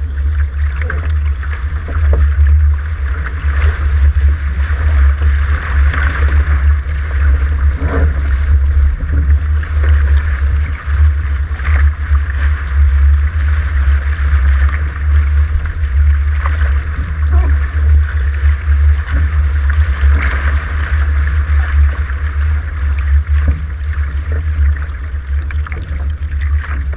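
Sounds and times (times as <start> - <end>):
faint water splashes: 0.0 - 26.9
water rushing past hull: 0.0 - 26.9
wind buffeting microphone: 0.0 - 26.9.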